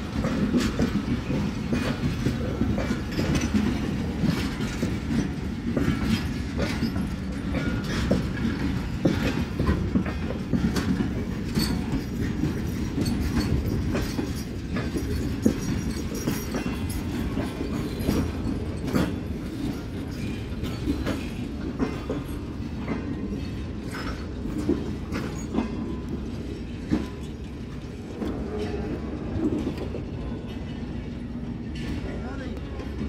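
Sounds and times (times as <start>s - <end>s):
train wheels rumbling on rail: 0.0s - 33.0s
wheels clicking over rail joints: 0.0s - 33.0s.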